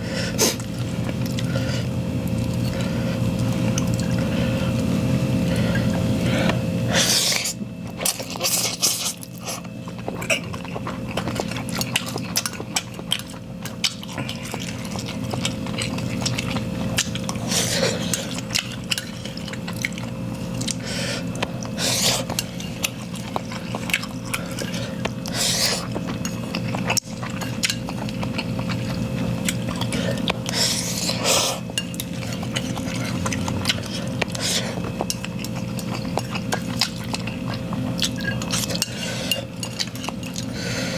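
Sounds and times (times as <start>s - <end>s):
noodles being slurped: 0.3s - 40.9s.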